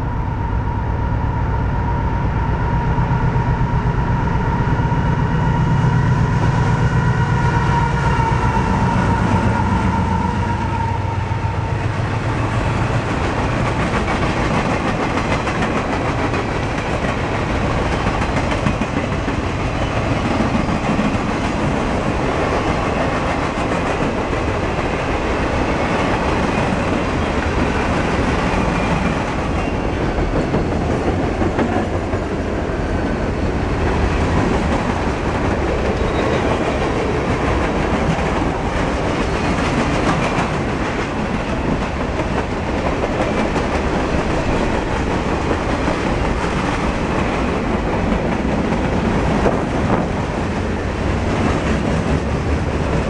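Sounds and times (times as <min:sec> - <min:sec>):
diesel locomotive engine drone: 0:00.0 - 0:53.0.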